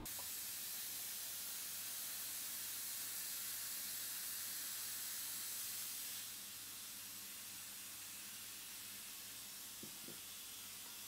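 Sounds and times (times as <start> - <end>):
vacuum pump hissing: 0.0 - 11.0.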